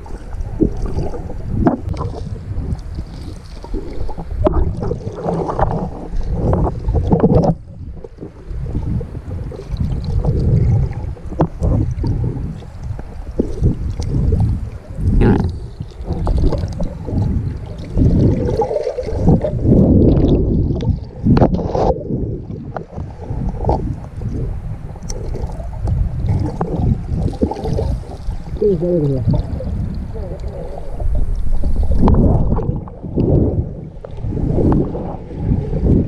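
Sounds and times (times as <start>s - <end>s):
muffled underwater sloshing: 0.0s - 36.0s.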